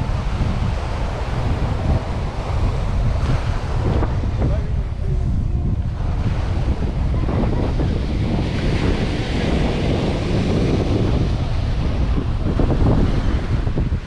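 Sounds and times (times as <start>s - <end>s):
waves breaking on sandy beach: 0.0s - 14.0s
wind buffeting microphone: 0.0s - 14.0s.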